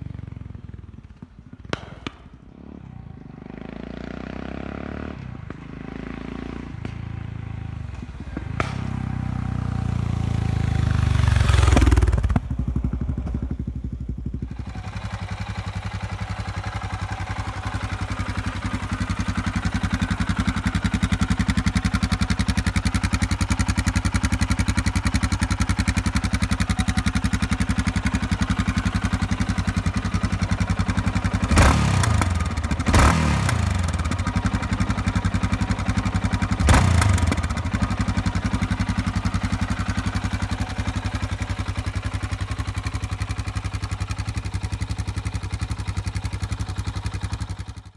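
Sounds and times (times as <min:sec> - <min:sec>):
motorcycle engine revving and idling: 0:00.0 - 0:47.9.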